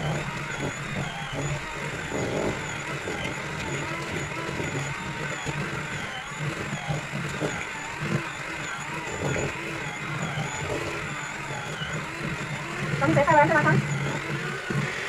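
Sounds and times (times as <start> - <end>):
electric hand mixer whining: 0.0 - 15.0.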